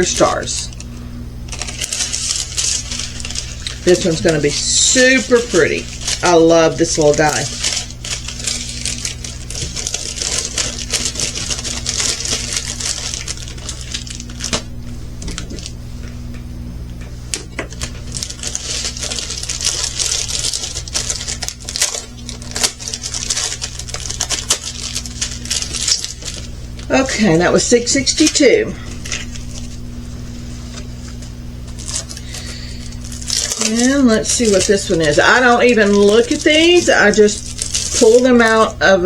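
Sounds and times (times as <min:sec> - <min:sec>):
plastic packaging crinkling: 0:00.0 - 0:15.8, 0:17.4 - 0:39.0
steady low hum: 0:00.0 - 0:39.0.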